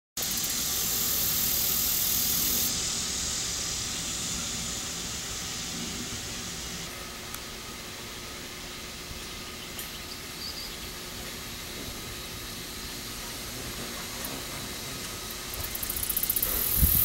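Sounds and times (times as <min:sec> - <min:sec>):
outdoor noise hiss: 0:00.2 - 0:17.0.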